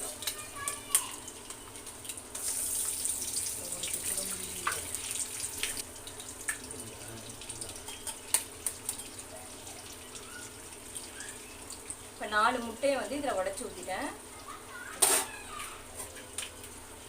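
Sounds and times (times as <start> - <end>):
eggs sizzling in hot oil: 0.0 - 17.0.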